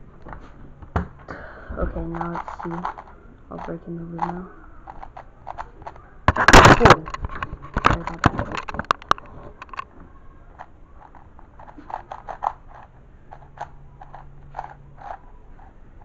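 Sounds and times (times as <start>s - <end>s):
puzzle cube clicking: 2.0s - 9.9s, 10.6s - 15.7s.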